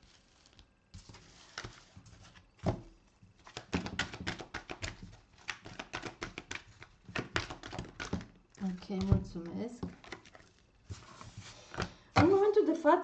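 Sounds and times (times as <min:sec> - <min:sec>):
cards being shuffled: 0:00.0 - 0:02.8, 0:03.4 - 0:12.4.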